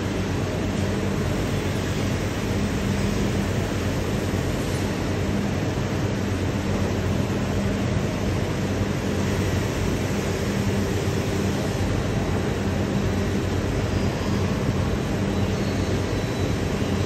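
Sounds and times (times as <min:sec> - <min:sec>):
fan rushing: 0:00.0 - 0:17.0
low electrical hum: 0:00.0 - 0:17.0.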